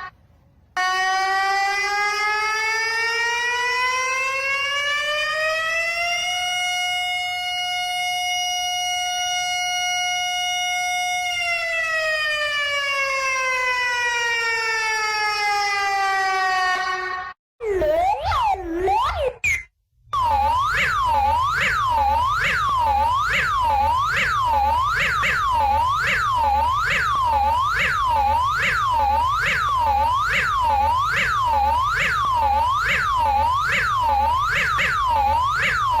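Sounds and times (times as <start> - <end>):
warning siren wailing: 0.8 - 19.6, 20.2 - 36.0.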